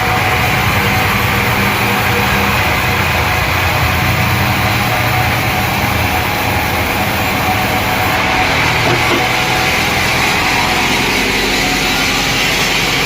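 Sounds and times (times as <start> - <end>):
sawmill machinery drone: 0.0 - 13.0.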